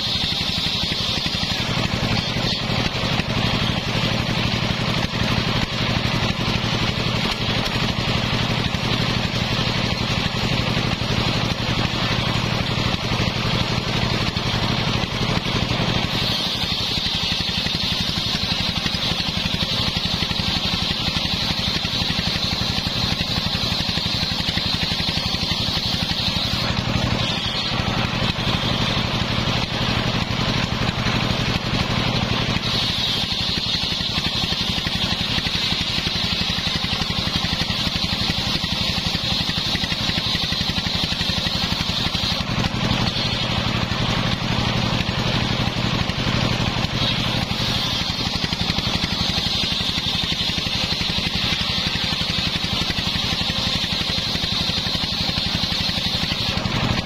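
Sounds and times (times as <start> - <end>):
saw blade cutting wood hiss: 0.0 - 57.0
saw motor hum: 0.0 - 57.0.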